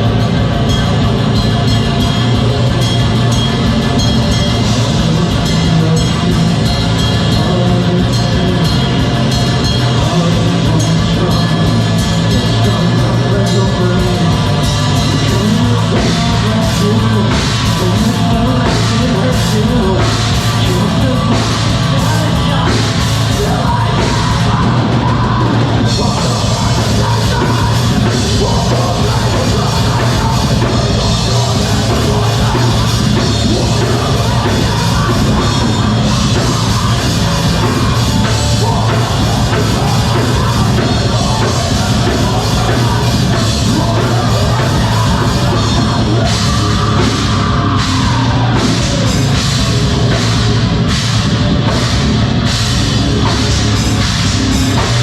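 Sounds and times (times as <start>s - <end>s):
person singing: 0.0s - 55.0s
rock band playing: 0.0s - 55.0s.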